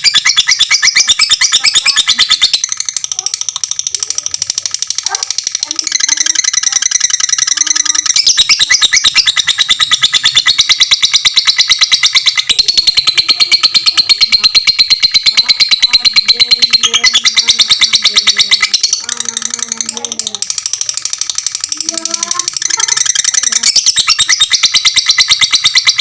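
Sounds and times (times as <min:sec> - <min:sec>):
bird chattering trill: 0:00.0 - 0:26.0.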